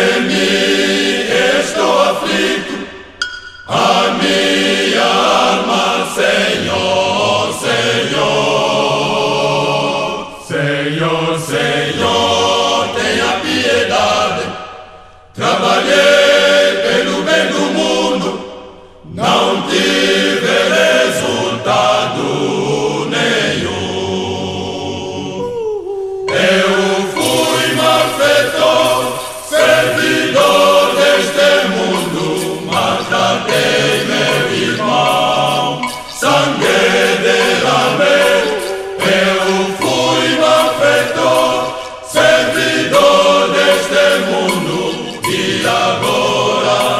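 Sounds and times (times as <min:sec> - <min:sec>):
male choir singing a hymn: 0:00.0 - 0:25.6, 0:26.3 - 0:46.9.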